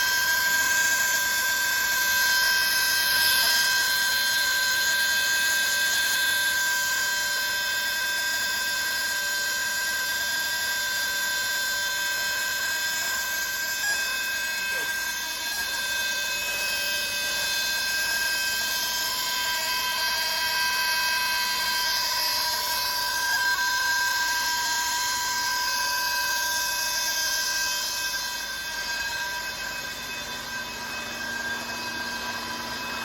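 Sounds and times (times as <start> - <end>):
air brake hiss with whistle: 0.0 - 33.0.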